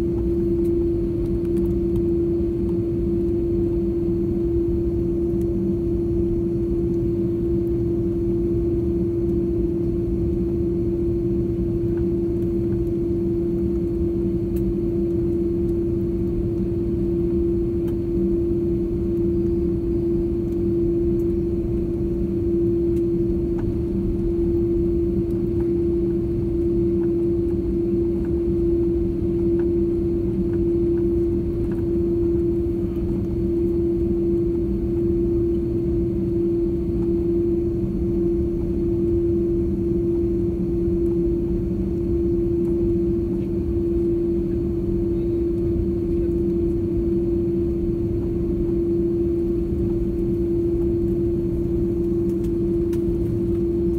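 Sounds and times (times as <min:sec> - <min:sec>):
airliner cabin engine rumble: 0:00.0 - 0:53.9.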